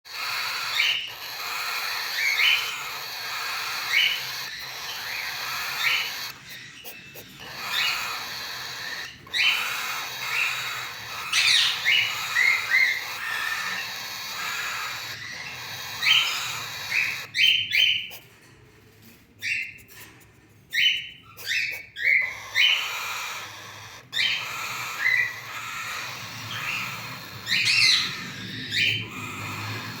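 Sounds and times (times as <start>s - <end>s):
cockatiel chicks chirping: 0.0s - 30.0s.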